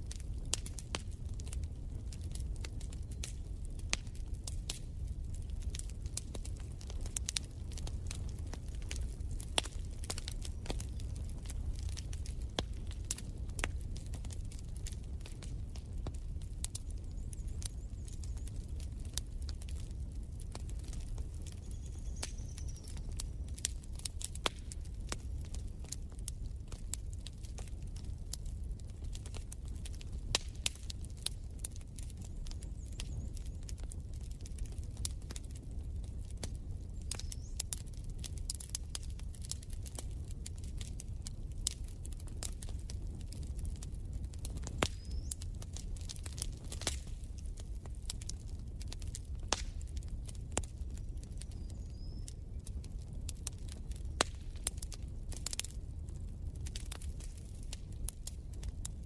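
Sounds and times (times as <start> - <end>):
fire pops: 0.0 - 59.0
wood fire crackling: 0.0 - 59.0.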